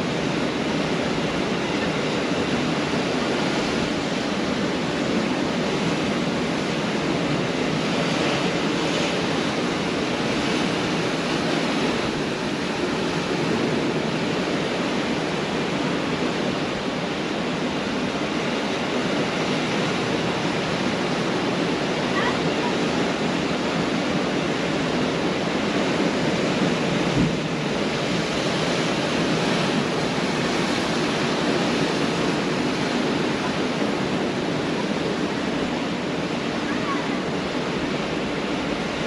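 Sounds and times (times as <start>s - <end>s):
surf breaking waves roar: 0.0s - 39.0s.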